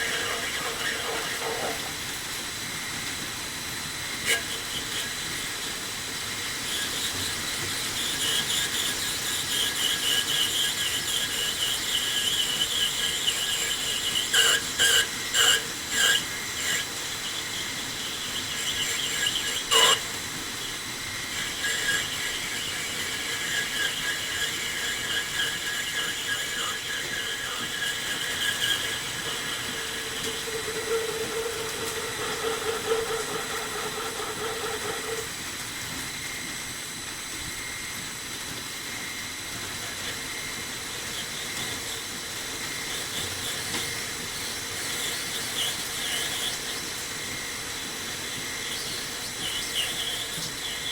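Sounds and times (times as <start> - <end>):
cutting tool squealing: 0.0 - 1.9, 4.2 - 35.4, 39.8 - 50.9
metal lathe running: 0.0 - 36.4, 38.7 - 50.9.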